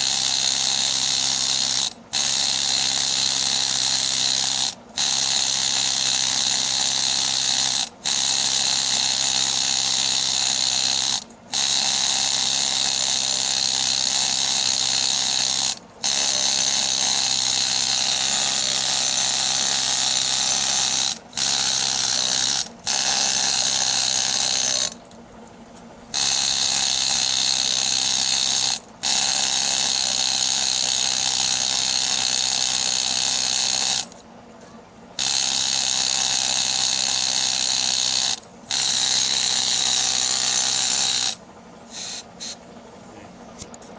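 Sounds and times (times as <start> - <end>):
pneumatic needle scaler hammering: 0.0 - 25.2, 26.1 - 34.2, 35.2 - 42.6.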